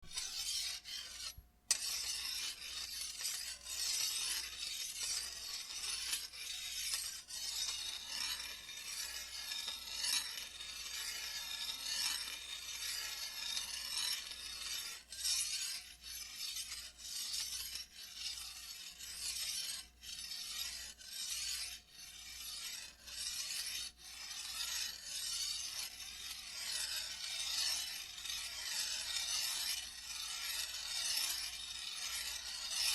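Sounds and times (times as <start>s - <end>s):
metal rasping during sharpening: 0.0s - 32.9s.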